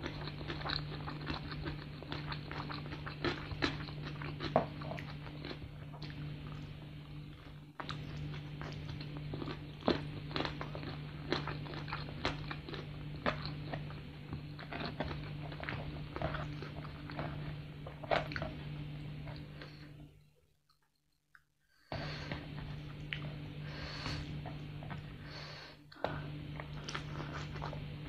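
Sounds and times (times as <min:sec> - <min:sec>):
steady low hum: 0:00.0 - 0:20.9, 0:21.7 - 0:28.0
chewing crispy chicken: 0:00.0 - 0:25.2, 0:26.0 - 0:28.0.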